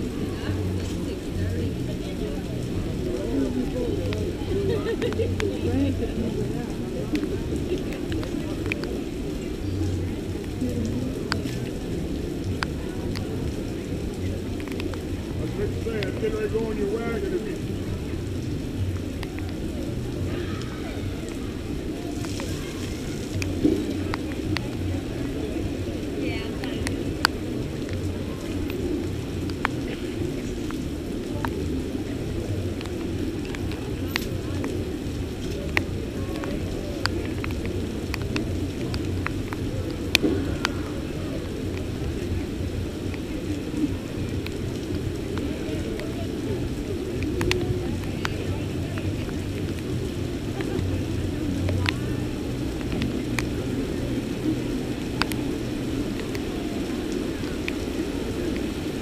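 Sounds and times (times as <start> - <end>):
heavy rain falling: 0.0 - 59.0
raindrops striking the camera: 0.0 - 59.0.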